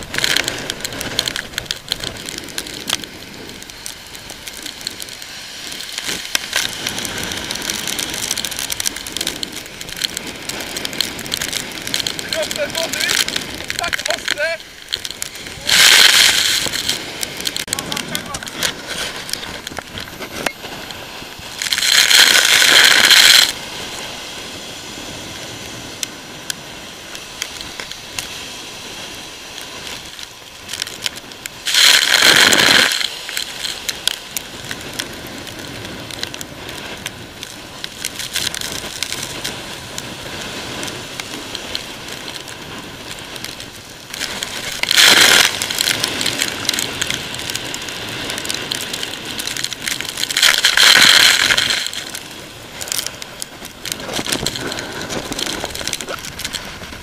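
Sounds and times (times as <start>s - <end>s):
breaking surf: 0.0s - 57.0s
loud hissing surf surges: 0.0s - 57.0s
wind crackling on microphone: 0.0s - 57.0s.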